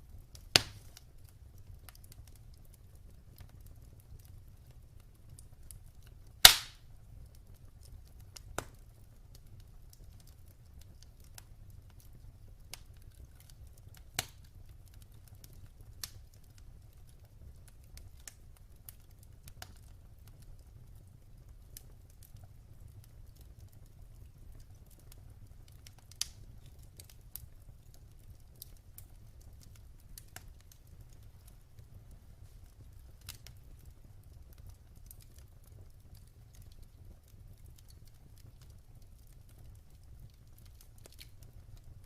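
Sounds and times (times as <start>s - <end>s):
low rumble of burning: 0.0s - 42.0s
wood fire pops and snaps: 0.1s - 42.0s.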